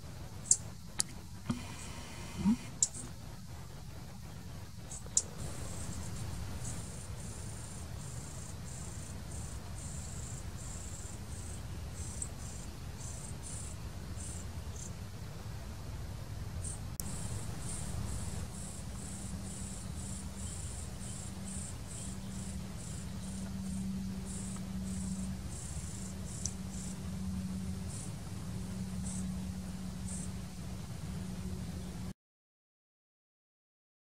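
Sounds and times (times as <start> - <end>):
insect chirping: 0.0 - 15.1, 16.6 - 31.9
steady low hum: 0.0 - 32.1.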